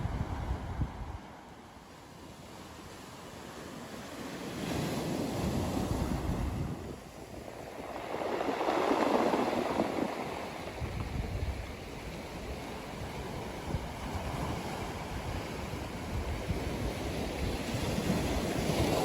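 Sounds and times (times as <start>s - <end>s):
waves breaking on a beach: 0.0s - 19.0s.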